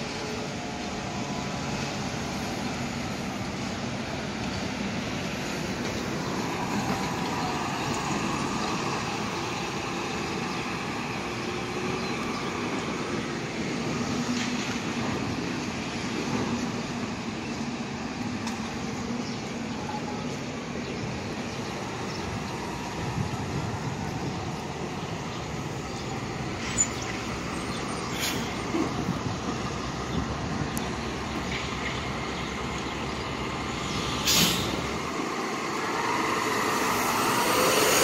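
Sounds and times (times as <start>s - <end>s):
bus driving by: 0.0s - 38.0s
faint steady vehicle tones: 0.0s - 38.0s
train running: 0.0s - 38.0s.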